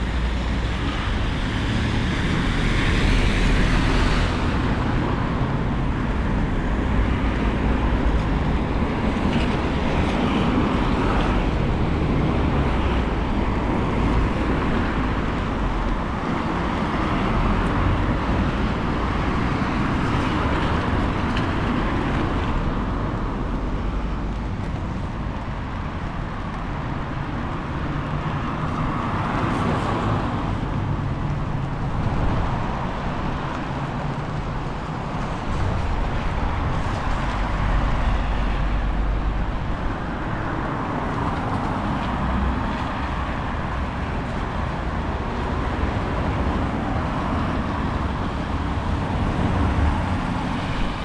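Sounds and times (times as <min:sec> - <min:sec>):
road traffic passing: 0:00.0 - 0:51.0
wind rumble on microphone: 0:00.0 - 0:51.0.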